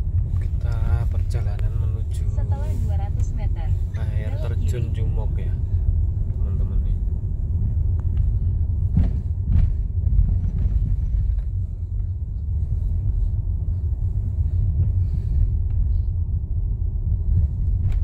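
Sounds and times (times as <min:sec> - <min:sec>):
car driving rumble in cabin: 0:00.0 - 0:18.0.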